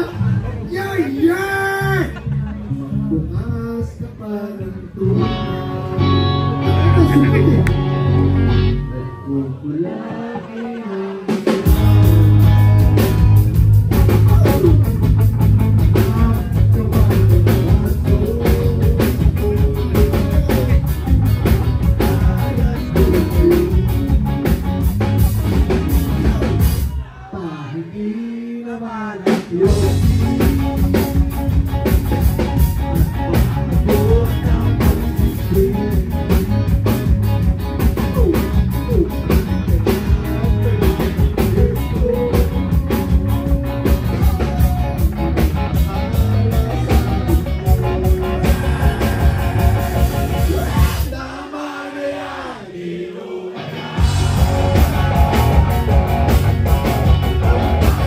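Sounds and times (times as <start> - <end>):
rock band playing live: 0.0 - 27.1, 29.2 - 51.4, 53.5 - 58.0
man singing: 2.9 - 11.7, 14.2 - 24.2, 25.9 - 37.2, 37.8 - 56.0.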